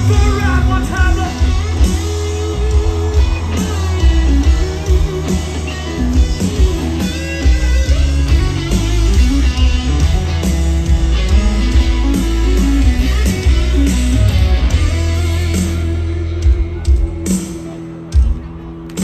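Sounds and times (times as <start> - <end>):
heavy bass: 0.0 - 18.5
drums: 0.0 - 19.0
guitar line: 0.0 - 19.0.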